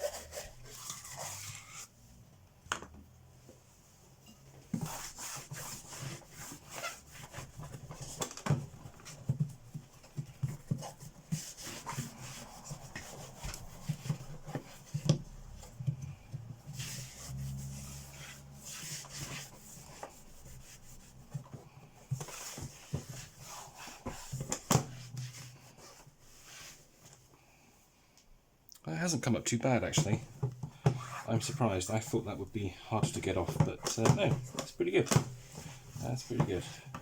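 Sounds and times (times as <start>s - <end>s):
scrubbing on plastic: 0.0s - 2.0s, 4.7s - 27.1s, 29.2s - 37.0s.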